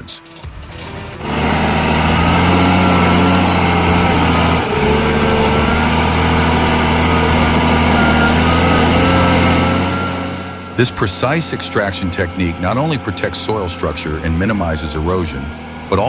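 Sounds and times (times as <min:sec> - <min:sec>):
machine engine droning under load: 0:00.0 - 0:16.0.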